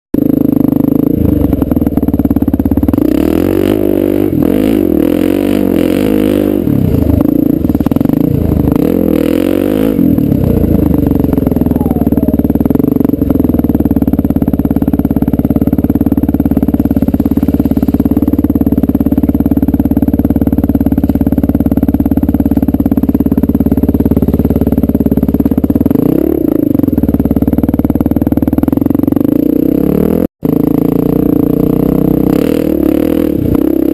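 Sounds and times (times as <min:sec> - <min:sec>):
motorcycle engine revving: 0:00.2 - 0:33.9.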